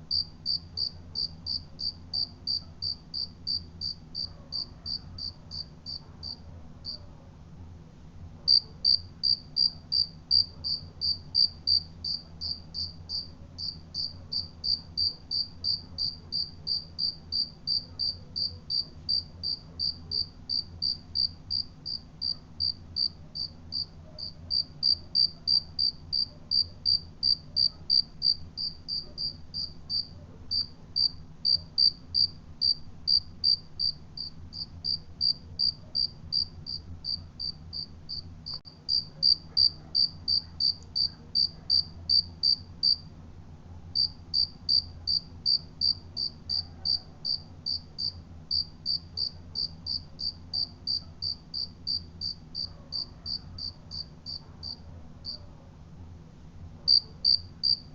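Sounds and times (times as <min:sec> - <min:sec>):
cricket chirping: 0:00.1 - 0:07.0, 0:08.5 - 0:43.0, 0:44.0 - 0:55.4, 0:56.9 - 0:57.9.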